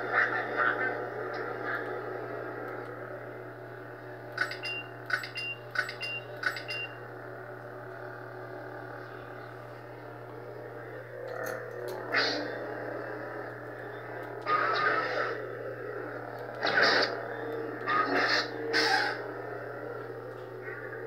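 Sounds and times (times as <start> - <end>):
lightsaber hum: 0.0 - 21.0.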